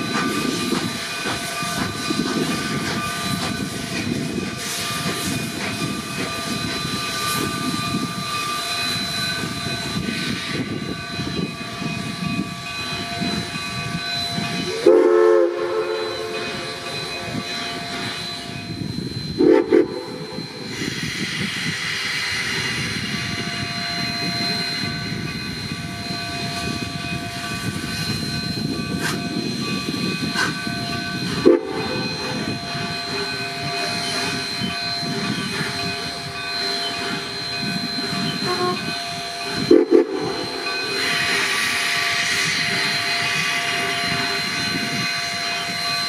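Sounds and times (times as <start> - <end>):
steam locomotive hissing steam: 0.0 - 46.0.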